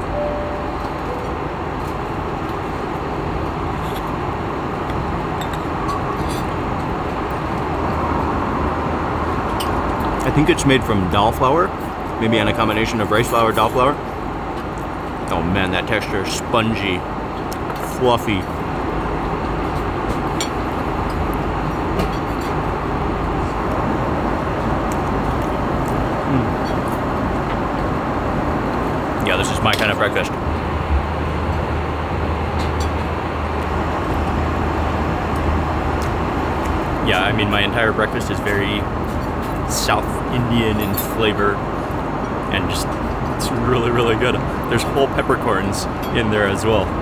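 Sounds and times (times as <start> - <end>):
airliner cabin roar: 0.0 - 47.0.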